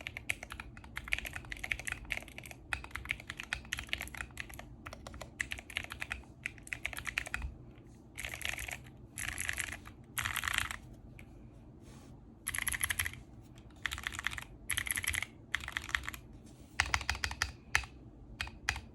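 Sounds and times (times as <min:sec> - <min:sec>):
mechanical keyboard typing: 0:00.0 - 0:07.5, 0:08.2 - 0:10.8, 0:12.5 - 0:16.2, 0:16.8 - 0:18.9.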